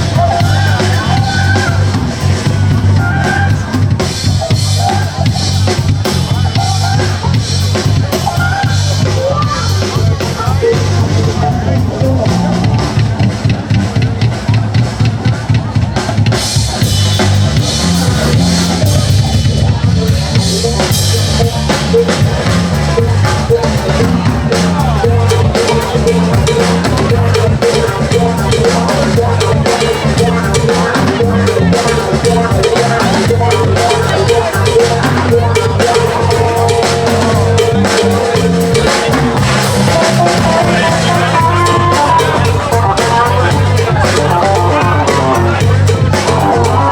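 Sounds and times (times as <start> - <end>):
bass notes: 0.0 - 46.9
drum kit beat: 0.0 - 46.9
live band music: 0.0 - 46.9.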